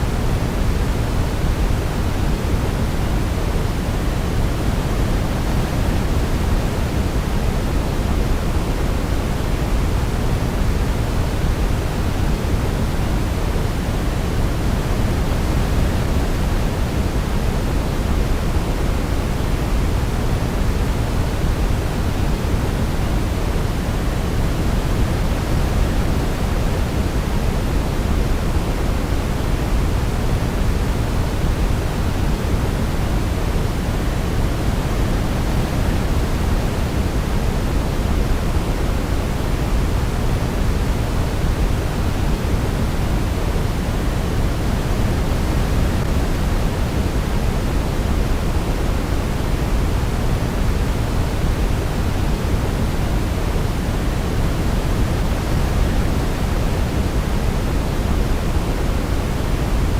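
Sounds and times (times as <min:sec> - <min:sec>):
low electronic hiss: 0:00.0 - 0:59.9.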